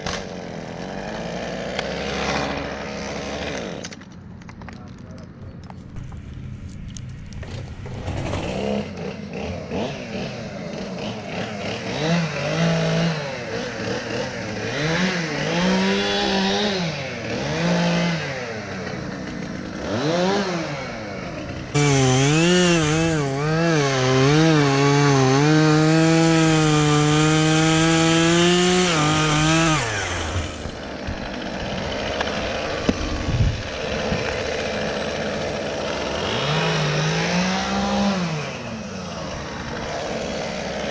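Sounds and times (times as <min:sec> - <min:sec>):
chainsaw engine revving: 0:00.0 - 0:04.0, 0:07.4 - 0:40.9.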